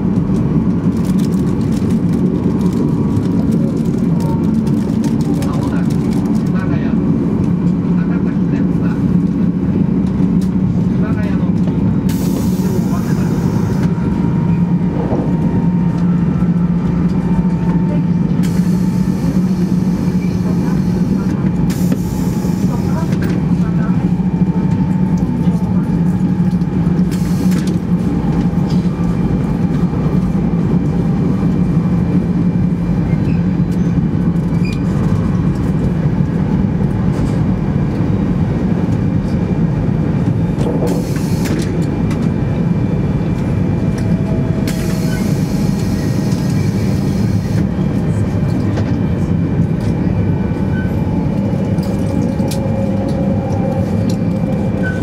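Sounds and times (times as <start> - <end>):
train running rumble and hum: 0.0 - 55.0.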